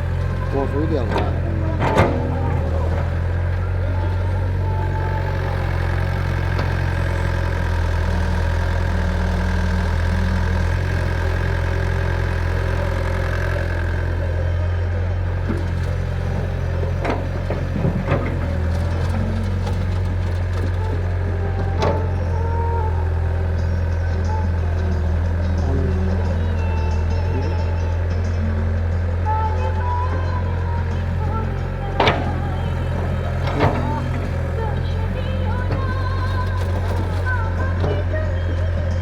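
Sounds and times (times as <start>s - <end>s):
diesel tractor engine droning: 0.0s - 39.0s.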